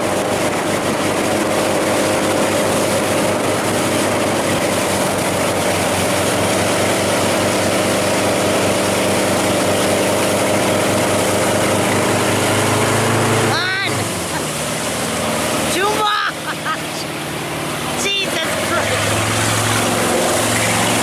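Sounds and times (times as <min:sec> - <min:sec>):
boat wake rushing: 0:00.0 - 0:21.0
motorboat engine running: 0:00.0 - 0:21.0.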